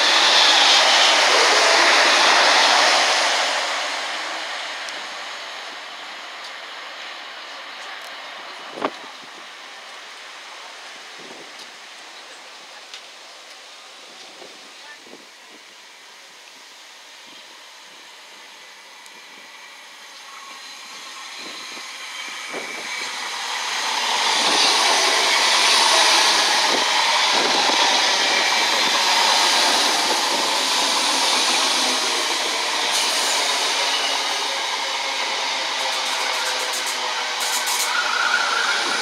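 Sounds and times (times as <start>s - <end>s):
electric train running past: 0.0s - 14.7s, 15.4s - 39.0s.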